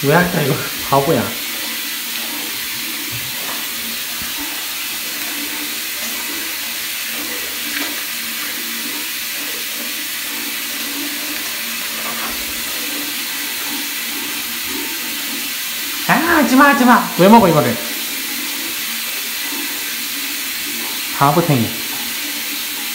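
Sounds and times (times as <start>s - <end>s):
tap water running into bathtub: 0.0s - 22.9s.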